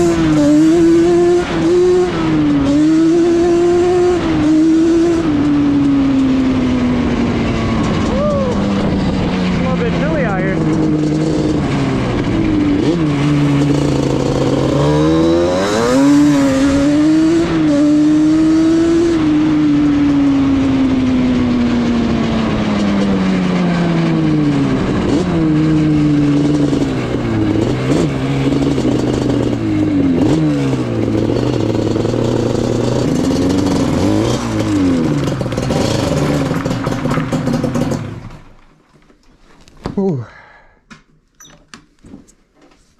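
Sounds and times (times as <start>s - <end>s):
two-stroke engine revving: 0.0s - 38.6s.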